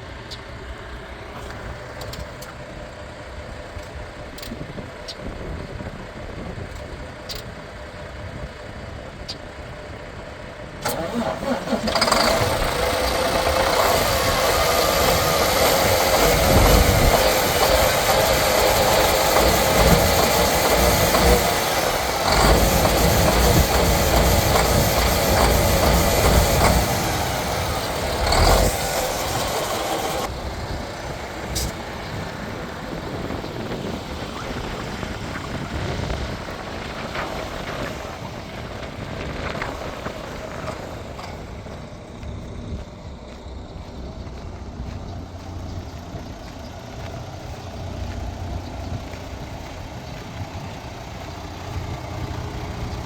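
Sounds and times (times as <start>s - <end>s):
truck diesel engine running: 0.0s - 53.0s.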